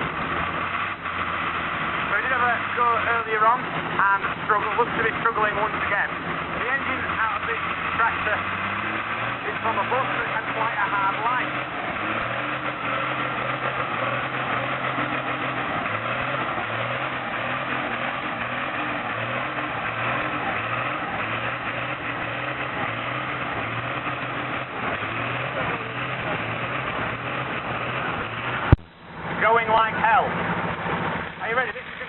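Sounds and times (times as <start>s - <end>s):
diesel engine running unevenly: 0.0s - 32.0s.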